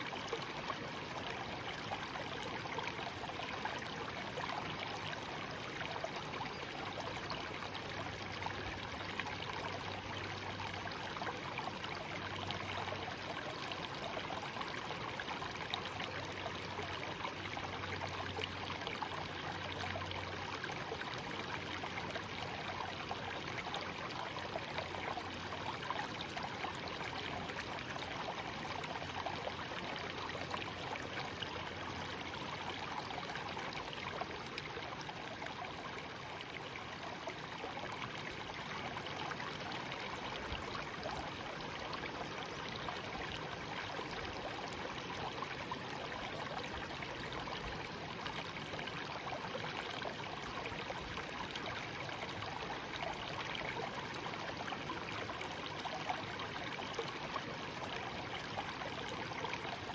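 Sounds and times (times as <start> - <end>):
stream murmuring and trickling: 0.0 - 59.9.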